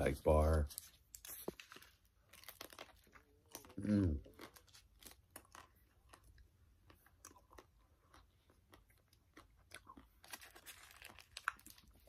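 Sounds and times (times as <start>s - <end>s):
faint chewing crunch: 0.7s - 12.0s.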